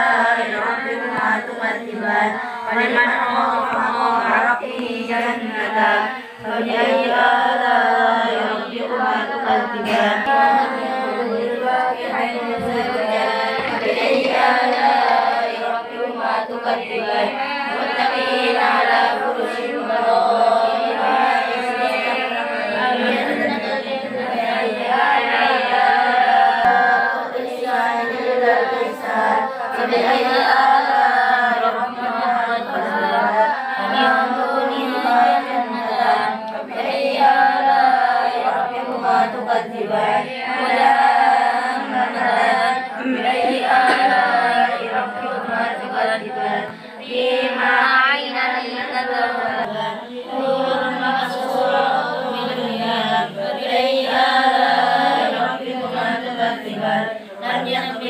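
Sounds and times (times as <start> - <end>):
girls reciting in unison: 0.0 - 58.0.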